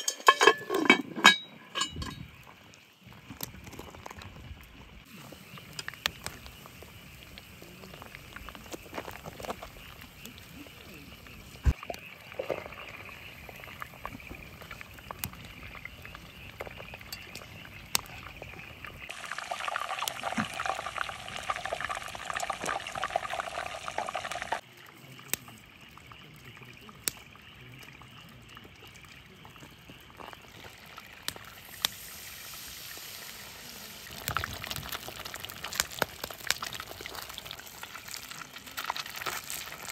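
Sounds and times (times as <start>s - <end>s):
hot oil bubbling and sizzling: 1.7s - 39.9s.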